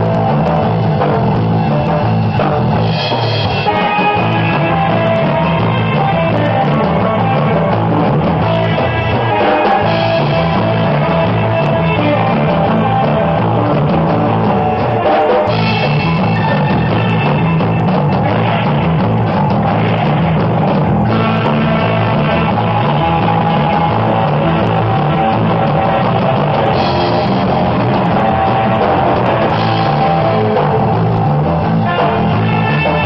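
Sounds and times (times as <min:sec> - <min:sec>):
surf rock band playing: 0:00.0 - 0:33.0.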